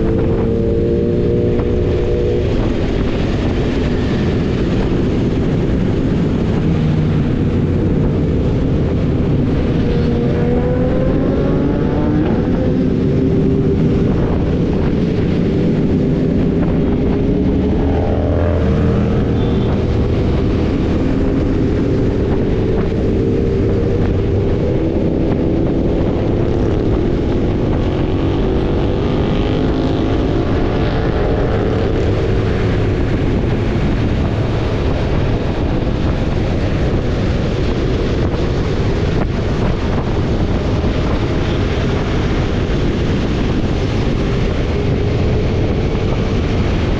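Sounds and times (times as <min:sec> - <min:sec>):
motorcycle engines running: 0:00.0 - 0:46.9
wind noise on microphone: 0:00.0 - 0:46.9.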